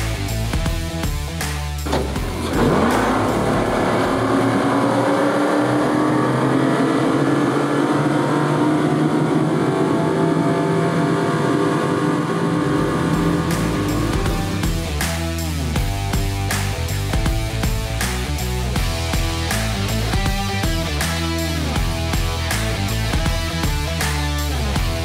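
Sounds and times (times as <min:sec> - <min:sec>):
outboard engines accelerating: 0:00.7 - 0:25.0.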